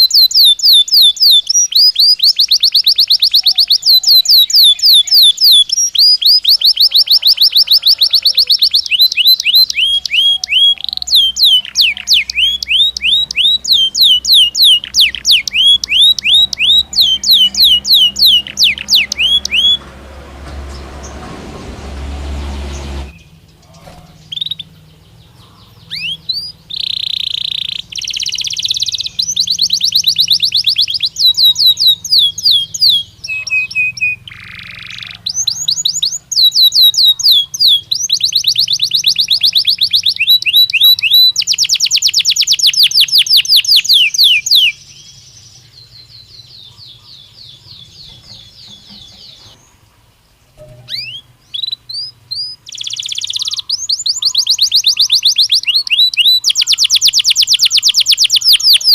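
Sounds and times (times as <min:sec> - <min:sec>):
canary singing trills: 0:00.0 - 0:21.3, 0:21.9 - 0:58.9.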